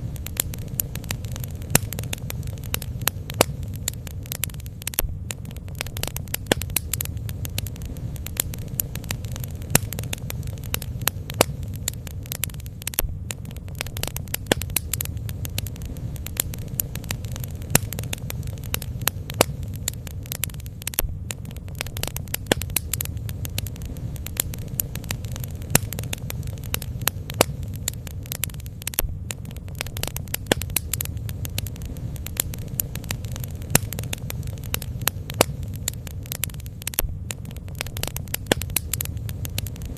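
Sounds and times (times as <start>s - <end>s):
burning wood crackling: 0.0s - 39.9s
flames rumbling: 0.0s - 39.9s.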